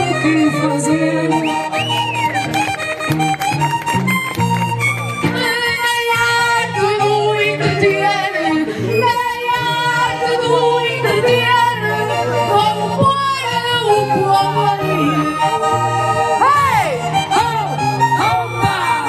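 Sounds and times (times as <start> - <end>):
squeezebox folk accompaniment: 0.0 - 19.0.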